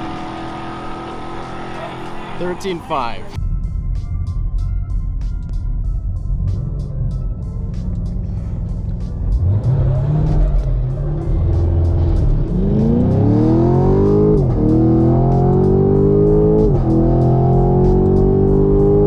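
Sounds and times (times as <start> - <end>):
car engine at full throttle: 0.0 - 3.4, 6.1 - 19.0
background music: 0.0 - 19.0.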